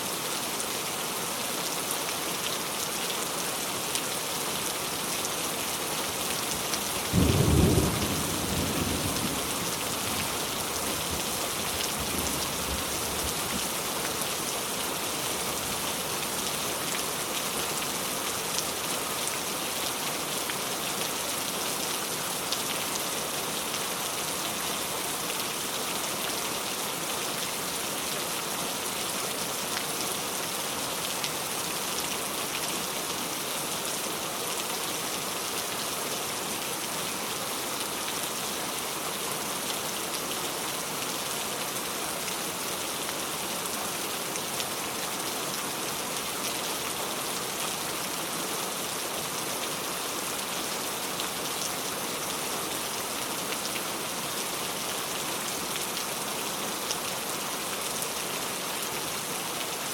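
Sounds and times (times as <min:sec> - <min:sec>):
steady falling rain: 0:00.0 - 0:59.9.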